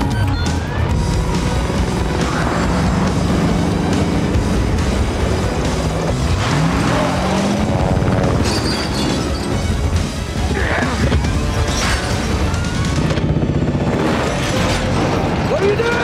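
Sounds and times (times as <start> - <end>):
dramatic orchestral music: 0.0 - 16.0
helicopter engine: 0.0 - 16.0
truck engine: 0.0 - 16.0.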